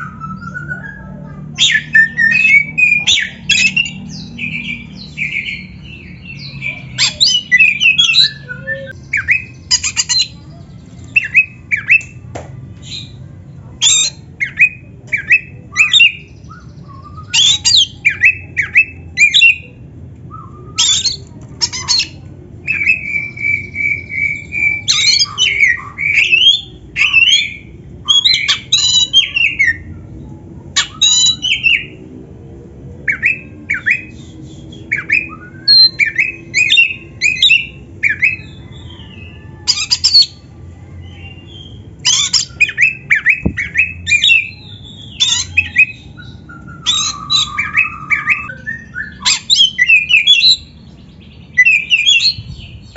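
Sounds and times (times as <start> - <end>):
bird singing: 0.0 - 12.2, 12.8 - 30.0, 30.8 - 32.0, 33.0 - 52.9
steady low hum: 0.0 - 52.9.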